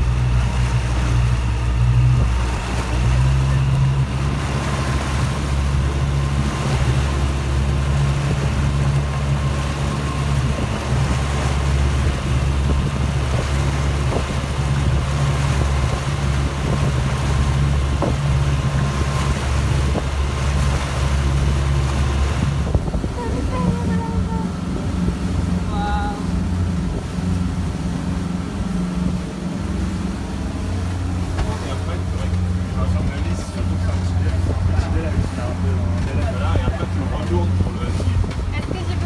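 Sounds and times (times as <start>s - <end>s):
motor boat engine drone: 0.0s - 39.0s
wind: 0.0s - 39.0s.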